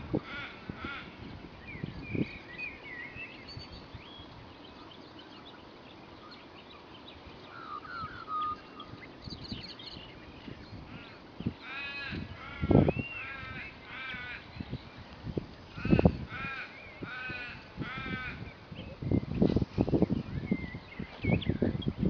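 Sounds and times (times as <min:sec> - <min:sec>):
steady background hiss: 0:00.0 - 0:21.2
small birds chirping: 0:00.0 - 0:22.0.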